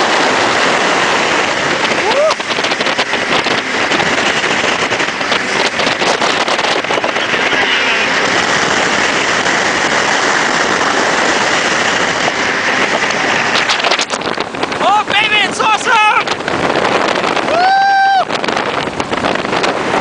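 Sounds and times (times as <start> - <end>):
jet boat running at speed: 0.0 - 20.0
wind buffeting microphone: 0.0 - 20.0.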